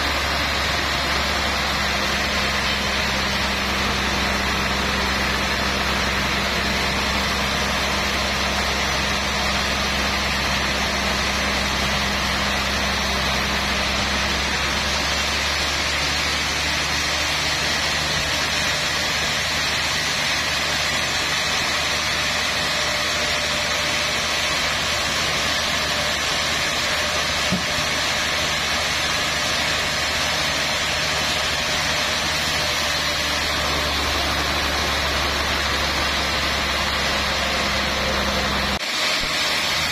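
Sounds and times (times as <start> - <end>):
band sawmill cutting a log: 0.0 - 39.9.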